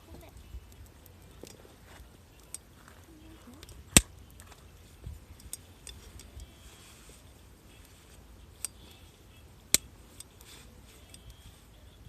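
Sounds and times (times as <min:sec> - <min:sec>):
campfire burning with wood pops: 0:00.0 - 0:12.0.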